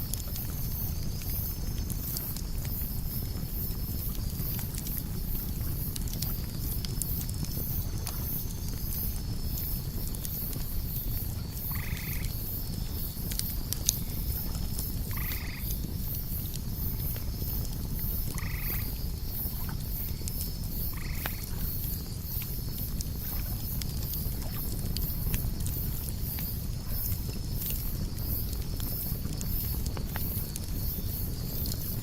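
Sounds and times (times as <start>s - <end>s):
campfire crackling and popping: 0.0s - 32.0s
crickets chirping: 0.0s - 32.0s.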